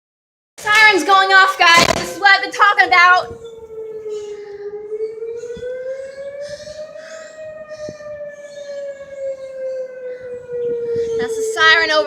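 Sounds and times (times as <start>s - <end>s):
warning siren wailing: 1.1s - 12.0s.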